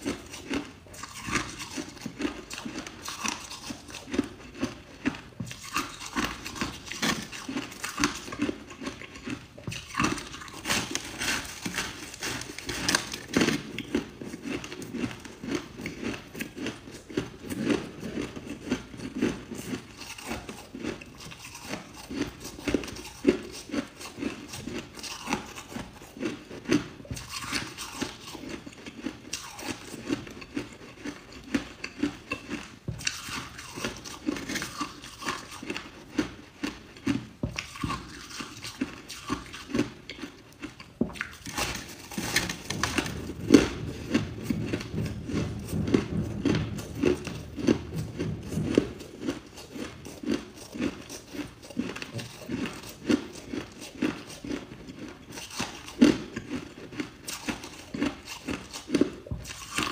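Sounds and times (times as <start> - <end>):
person chewing crushed ice: 0.0 - 59.9.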